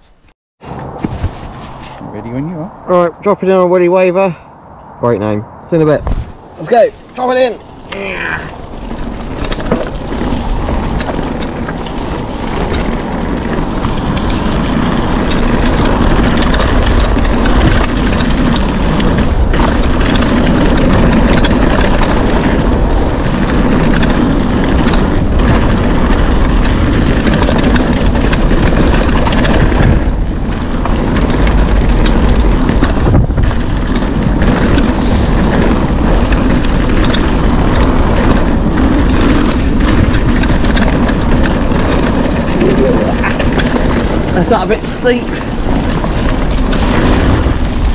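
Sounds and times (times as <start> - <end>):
tyres rolling on trail: 0.0 - 47.9
wind rushing over microphone: 0.0 - 47.9
bike clicks and rattles: 6.0 - 47.9.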